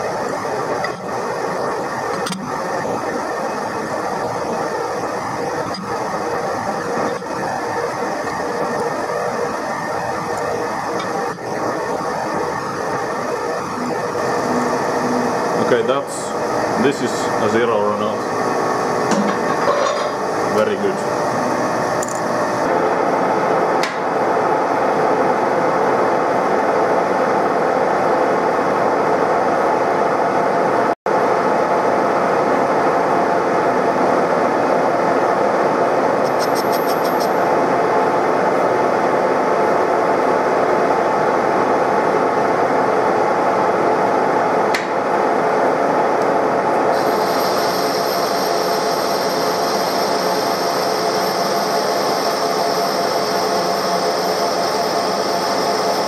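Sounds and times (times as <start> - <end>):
lathe gearbox whine: 0.0 - 28.4, 30.8 - 56.0.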